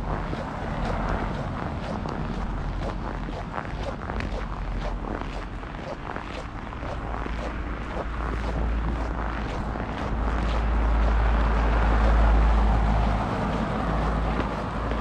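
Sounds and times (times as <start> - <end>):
footsteps crunching on snow: 0.0 - 15.0
low rumble: 0.0 - 15.0.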